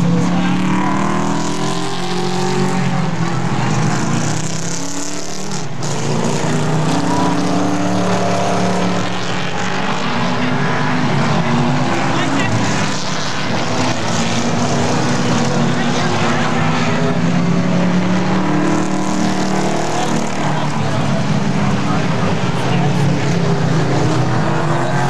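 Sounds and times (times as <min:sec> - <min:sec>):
race car engines roaring: 0:00.0 - 0:25.0.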